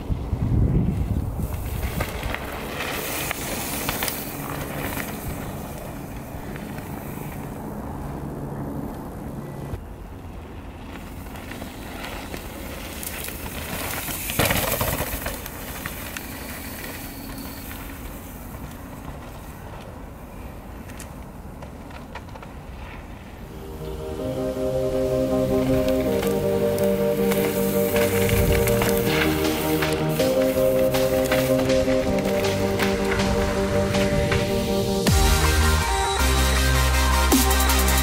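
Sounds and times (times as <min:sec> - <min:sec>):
bike rattling over rough ground: 0:00.0 - 0:23.5, 0:26.0 - 0:34.6
bike tyres rolling on dirt: 0:00.0 - 0:35.9.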